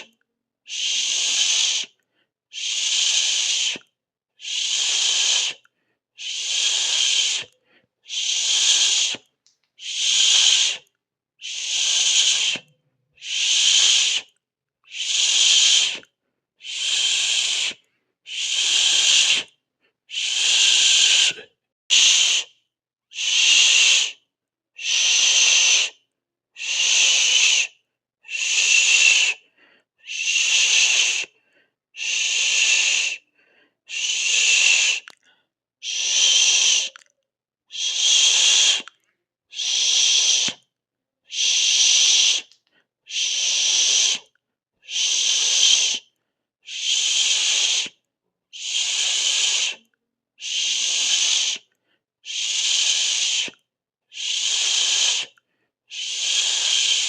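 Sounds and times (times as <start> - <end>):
person hissing: 0.7 - 19.5, 20.1 - 24.2, 24.8 - 26.0, 26.6 - 31.4, 32.0 - 33.3, 33.9 - 35.2, 35.8 - 37.0, 37.7 - 38.9, 39.5 - 40.7, 41.3 - 46.1, 46.7 - 48.0, 48.6 - 57.0.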